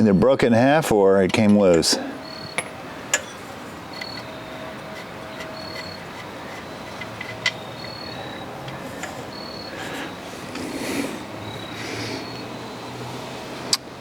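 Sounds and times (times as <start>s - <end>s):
faint background hum: 0.0s - 14.0s.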